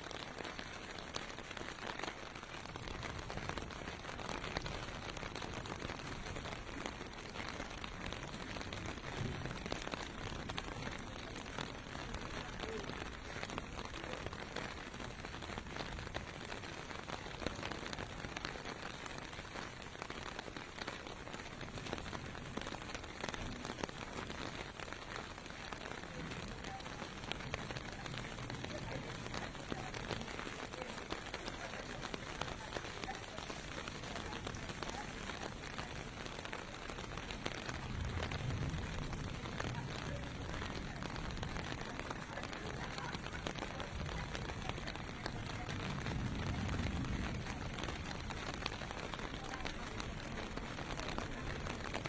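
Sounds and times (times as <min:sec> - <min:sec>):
rain pelting on pavement: 0:00.0 - 0:52.0.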